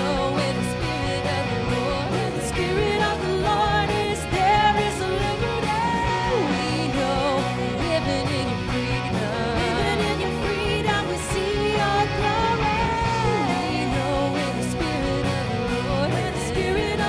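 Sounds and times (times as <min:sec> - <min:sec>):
rock band playing: 0:00.0 - 0:17.0
woman singing: 0:00.0 - 0:17.0.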